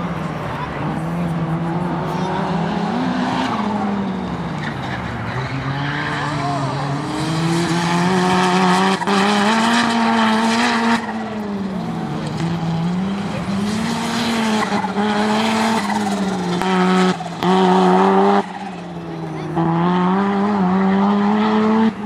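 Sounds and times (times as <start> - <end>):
loud car passing by: 0.0 - 22.0
race car engines accelerating: 0.0 - 22.0.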